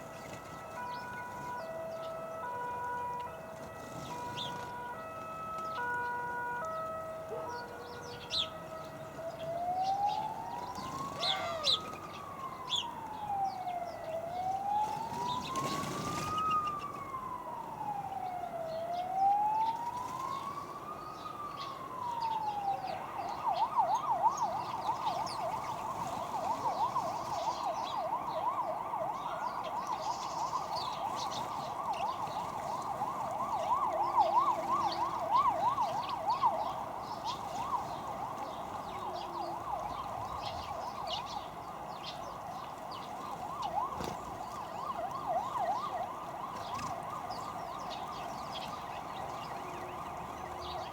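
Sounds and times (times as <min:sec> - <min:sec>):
emergency vehicle siren: 0:00.0 - 0:50.9.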